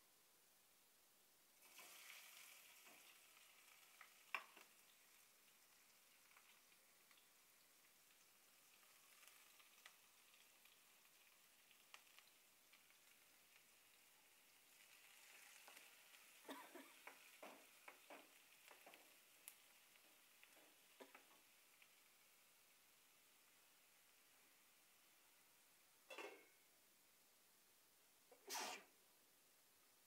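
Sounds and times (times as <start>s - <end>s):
onions sizzling in a pan: 1.6s - 26.8s.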